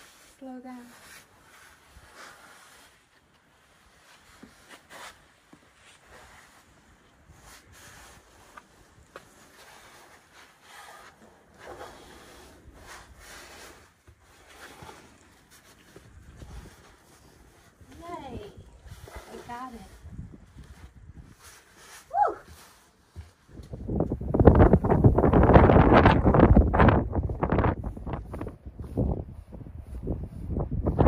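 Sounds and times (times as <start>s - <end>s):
jacket rustling against rock: 0.0s - 31.0s.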